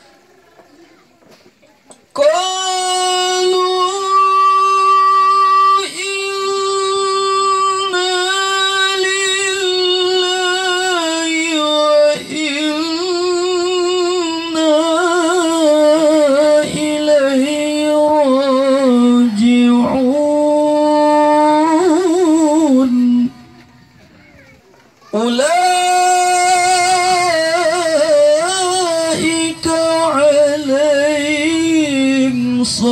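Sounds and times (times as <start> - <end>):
man reciting melodically: 2.1 - 23.6, 25.0 - 32.9.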